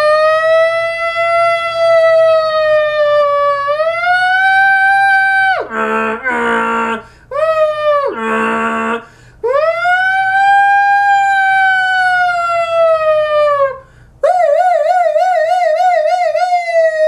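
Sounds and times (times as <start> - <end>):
man imitating a siren: 0.0 - 17.0.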